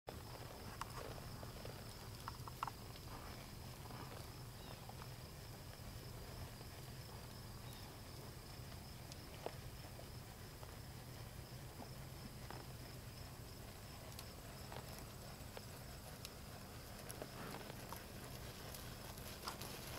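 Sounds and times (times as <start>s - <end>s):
insect chirring: 0.2s - 19.9s.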